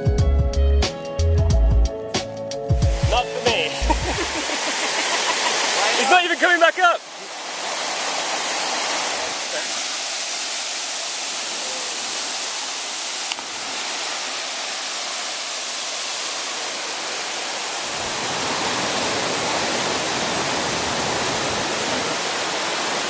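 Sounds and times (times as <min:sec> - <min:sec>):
waterfall rushing: 0:02.7 - 0:23.0.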